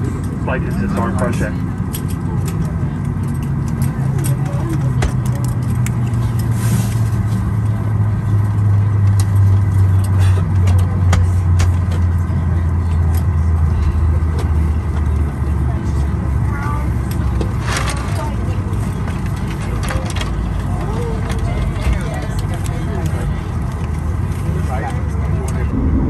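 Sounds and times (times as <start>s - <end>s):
airliner cabin engine hum: 0.0s - 26.0s.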